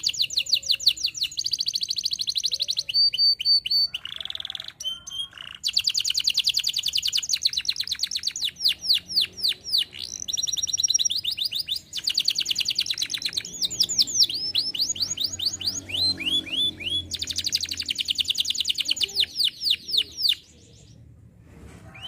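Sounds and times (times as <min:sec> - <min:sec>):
canary singing: 0:00.0 - 0:21.1.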